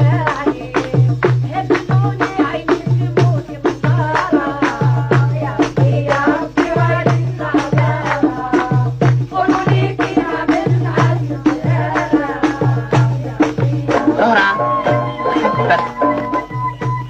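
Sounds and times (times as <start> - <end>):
frame drum with jingles: 0.0 - 17.0
women singing: 0.0 - 17.0.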